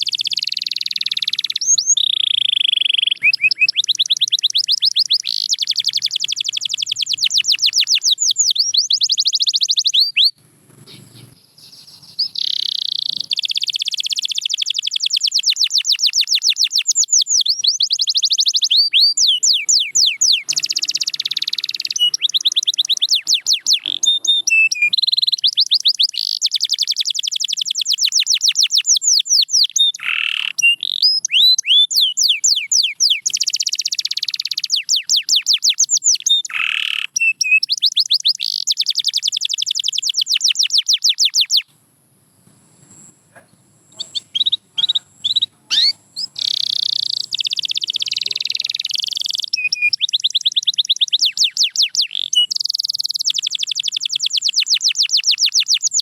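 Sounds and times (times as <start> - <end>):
canary singing trills: 0.0 - 41.7, 42.8 - 56.0.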